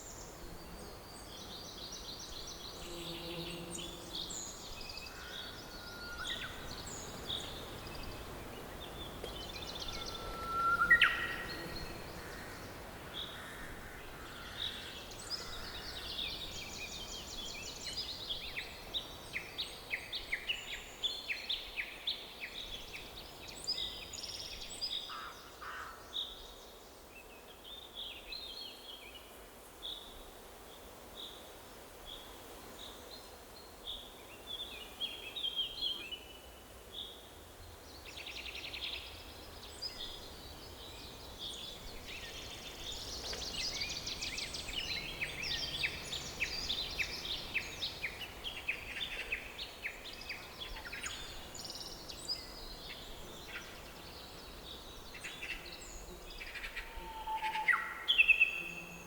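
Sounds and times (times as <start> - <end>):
faint steady background hiss: 0.0 - 59.0.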